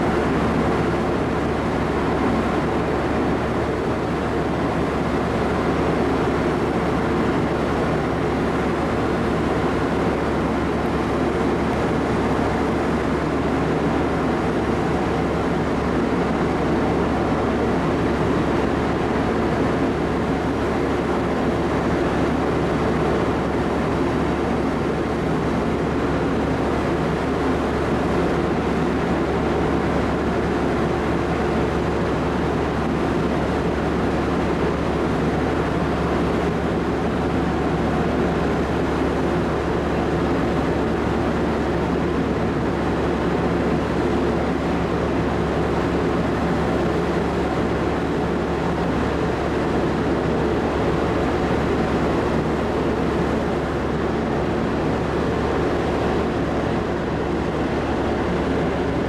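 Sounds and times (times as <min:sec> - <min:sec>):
ship machinery rumble: 0:00.0 - 0:59.0.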